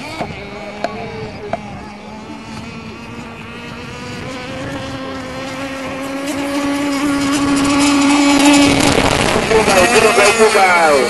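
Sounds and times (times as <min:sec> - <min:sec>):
model powerboat engine high-pitched: 0:00.0 - 0:11.0.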